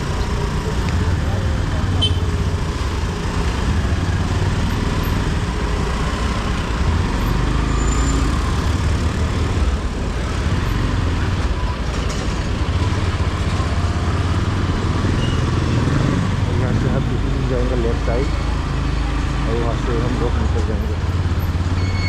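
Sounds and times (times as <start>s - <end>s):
motorcycle engine rumble: 0.0s - 21.8s
traffic noise: 0.0s - 22.0s
tyres on road: 0.0s - 22.0s.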